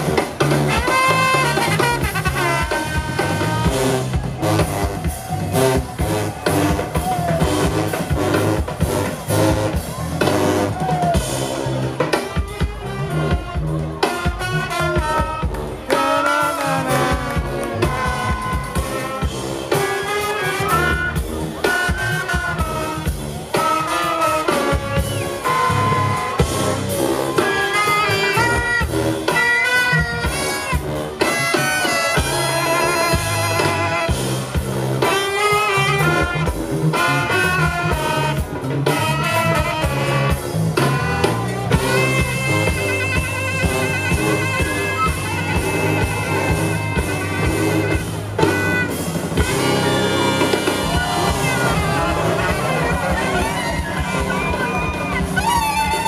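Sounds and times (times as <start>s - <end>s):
drums: 0.0s - 56.0s
saxophones and trombones: 0.0s - 56.0s
sousaphone bass: 0.0s - 56.0s.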